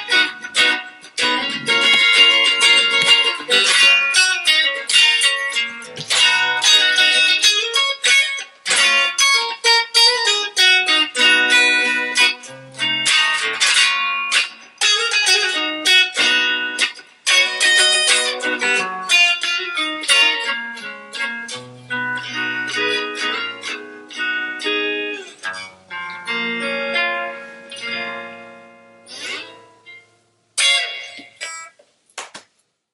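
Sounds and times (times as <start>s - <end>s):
electric guitar playing: 0.0s - 31.7s.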